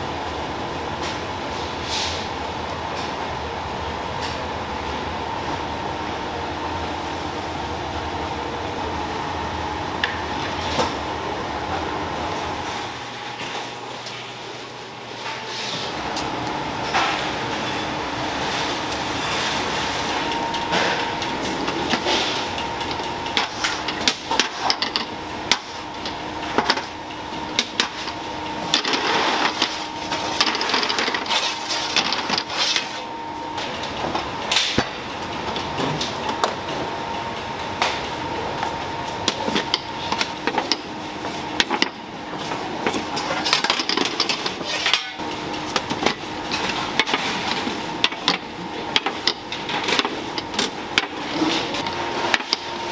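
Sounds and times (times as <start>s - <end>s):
machinery hum: 0.0s - 52.9s.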